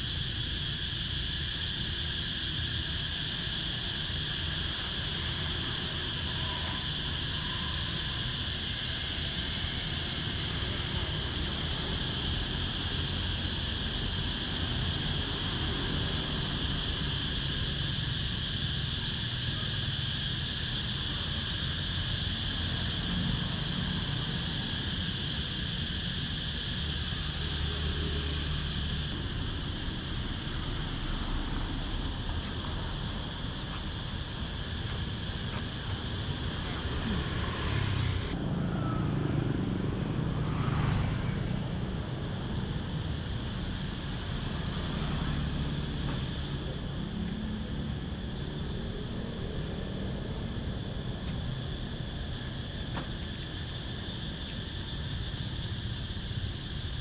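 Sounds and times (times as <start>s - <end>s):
road noise hum: 0.0s - 57.0s
vehicles passing: 0.0s - 57.0s.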